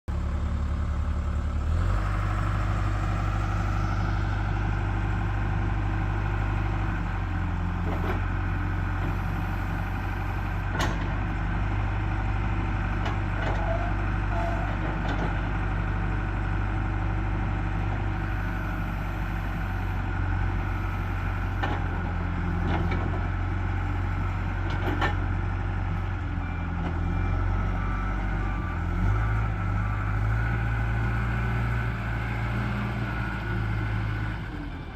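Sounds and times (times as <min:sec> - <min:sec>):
diesel engine running: 0:00.1 - 0:34.9
engine whine: 0:00.1 - 0:34.9.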